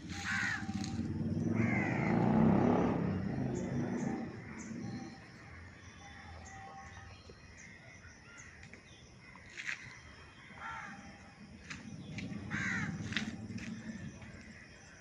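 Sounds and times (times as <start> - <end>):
bird calls: 0.0 - 2.4, 3.1 - 15.0.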